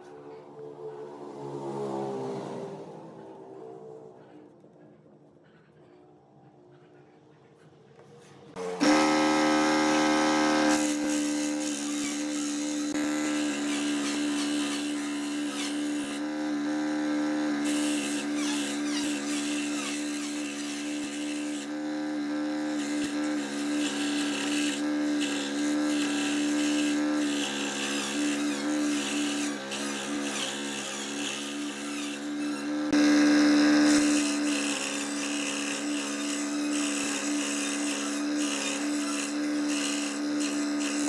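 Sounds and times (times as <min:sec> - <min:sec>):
saw blade cutting wood: 0:08.0 - 0:41.0
scroll saw humming: 0:08.0 - 0:41.0.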